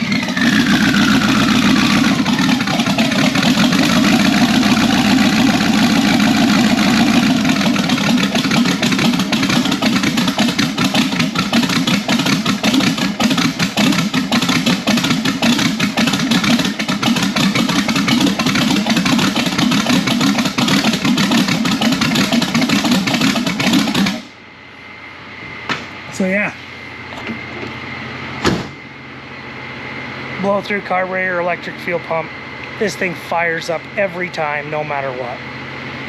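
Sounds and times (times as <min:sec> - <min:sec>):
car engine idling loudly: 0:00.0 - 0:36.0.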